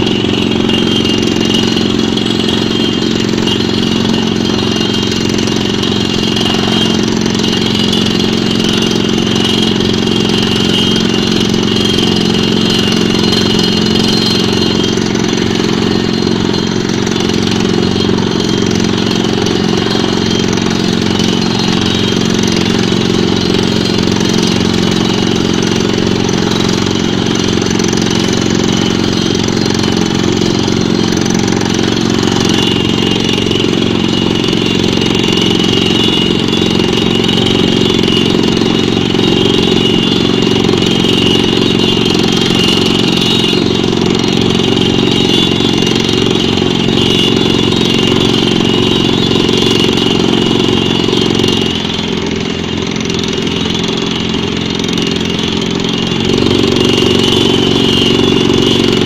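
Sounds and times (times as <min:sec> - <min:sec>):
pneumatic drilling rig engine: 0:00.0 - 0:59.0.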